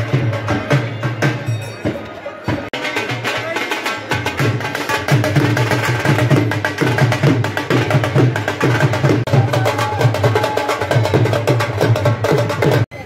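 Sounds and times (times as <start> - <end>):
dhol drums beating: 0.0 - 13.0.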